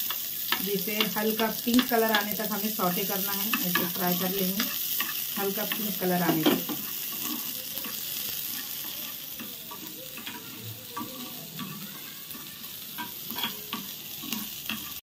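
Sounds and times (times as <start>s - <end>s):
onions sizzling in oil: 0.0s - 15.0s
spatula tapping and scraping pan: 0.0s - 15.0s.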